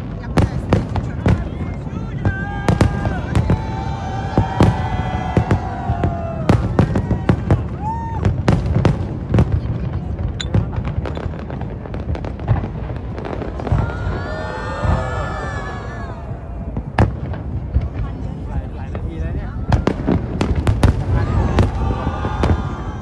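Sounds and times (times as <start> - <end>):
fireworks bangs and crackle: 0.0 - 23.0.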